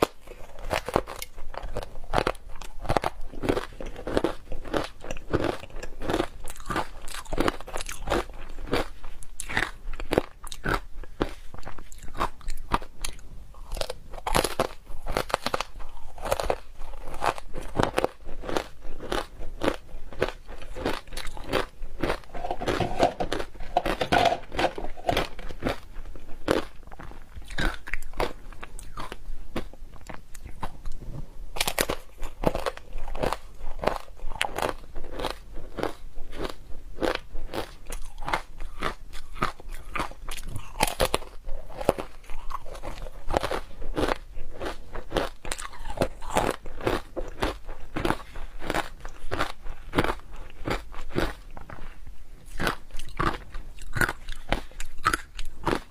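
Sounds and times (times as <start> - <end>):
chewing crunchy ice: 0.0 - 55.9.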